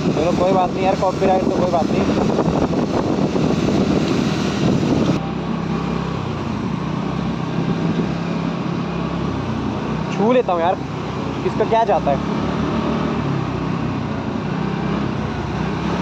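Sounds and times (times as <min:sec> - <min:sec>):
scooter engine drone: 0:00.0 - 0:16.0
wind rushing over microphone: 0:00.0 - 0:16.0.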